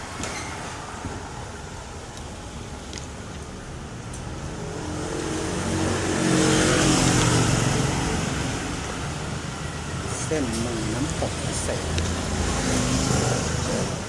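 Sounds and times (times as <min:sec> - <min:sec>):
vehicle engine: 0:00.0 - 0:14.0.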